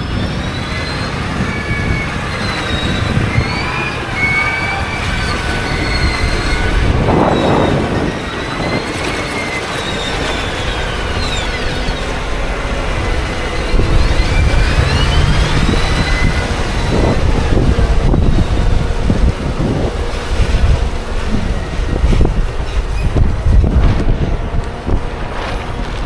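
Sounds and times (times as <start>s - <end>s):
high metallic squeals: 0.0s - 24.4s
heavy farm machinery running: 0.0s - 26.0s
wind buffeting microphone: 0.0s - 26.0s.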